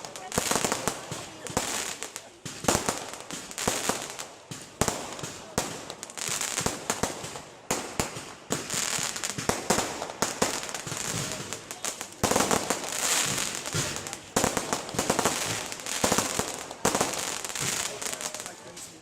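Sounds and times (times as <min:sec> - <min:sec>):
fireworks bursts and crackling: 0:00.0 - 0:19.0.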